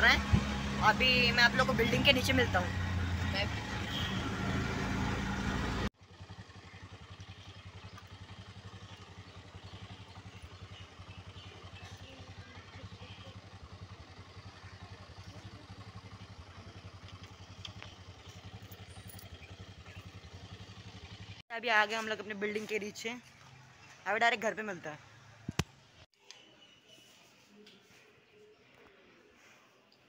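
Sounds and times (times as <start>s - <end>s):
auto-rickshaw engine idling: 0.0s - 26.0s.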